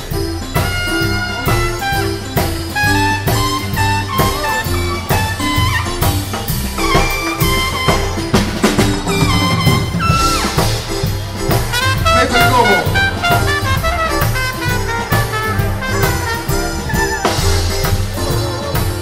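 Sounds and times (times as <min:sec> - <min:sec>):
drum kit beat: 0:00.0 - 0:19.0
horn melody: 0:00.0 - 0:19.0
live swing band playing: 0:00.0 - 0:19.0.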